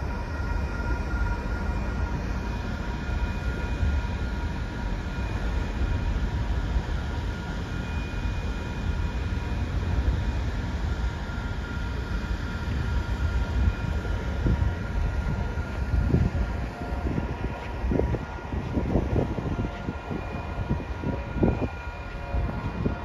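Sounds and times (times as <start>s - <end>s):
distant train rumble: 0.0s - 23.0s.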